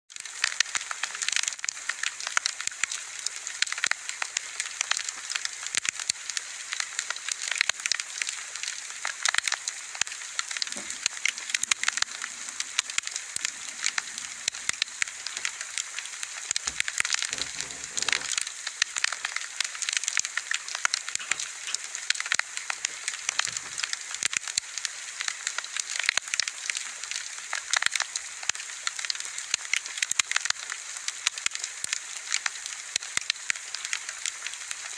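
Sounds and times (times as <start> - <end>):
bonfire crackling and popping: 0.2 - 34.9.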